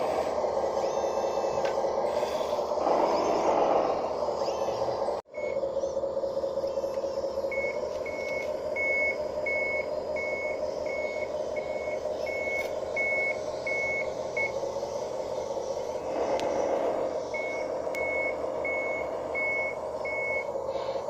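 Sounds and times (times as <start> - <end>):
reversing beeper: 0.0 - 21.0
steady machine drone: 0.0 - 21.0.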